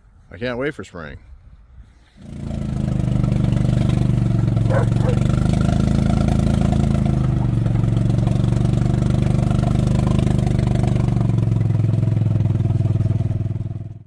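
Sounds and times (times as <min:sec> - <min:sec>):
small gas engine running: 0:02.2 - 0:14.0.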